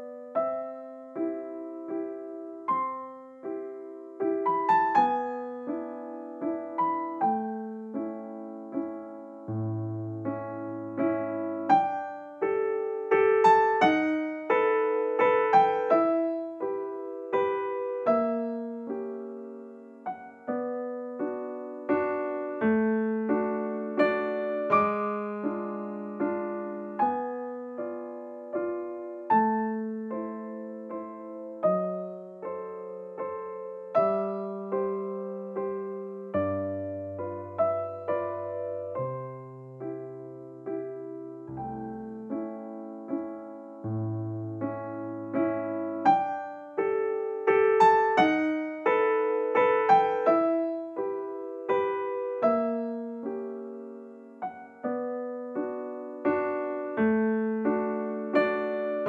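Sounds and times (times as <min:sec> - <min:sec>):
gentle piano melody: 0:00.0 - 0:59.0.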